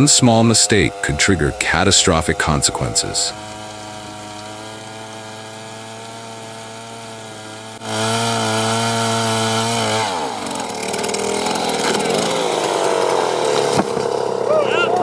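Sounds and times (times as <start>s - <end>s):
engine-driven saw cutting wood: 0.0s - 15.0s.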